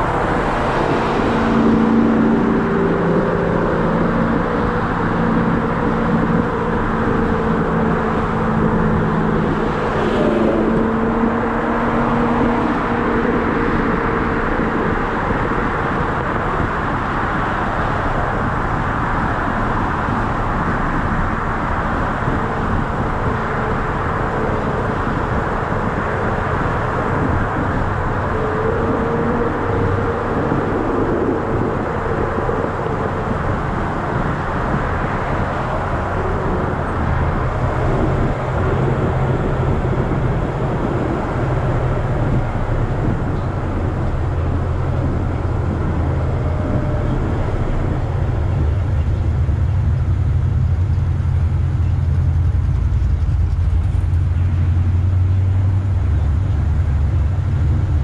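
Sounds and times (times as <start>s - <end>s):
car engine running: 0.0s - 58.0s
wind and tyre noise: 0.0s - 58.0s.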